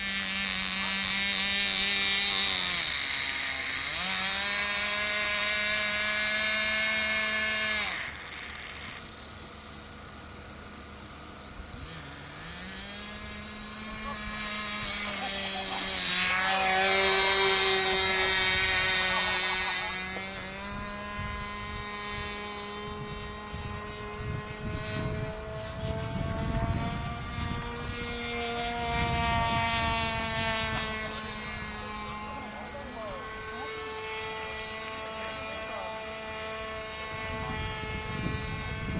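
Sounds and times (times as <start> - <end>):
model airplane engine: 0.0 - 38.9.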